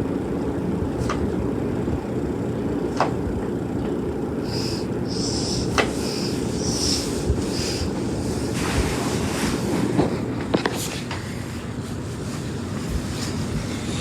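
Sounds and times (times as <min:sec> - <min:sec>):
fan air buffeting microphone: 0:00.0 - 0:14.0.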